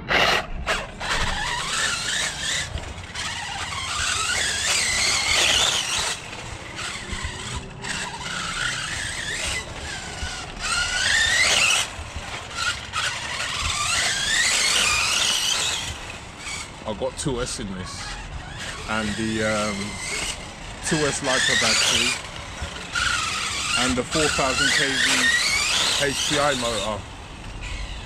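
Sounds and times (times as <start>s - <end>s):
electric motor whining: 0.0s - 28.0s
squeaky drivetrain: 0.0s - 28.0s.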